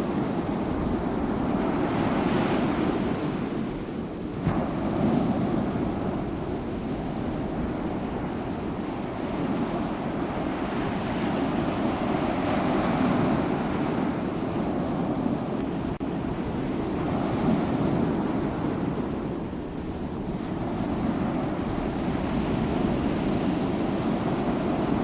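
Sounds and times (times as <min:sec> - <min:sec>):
sea waves washing onto shore: 0:00.0 - 0:25.0.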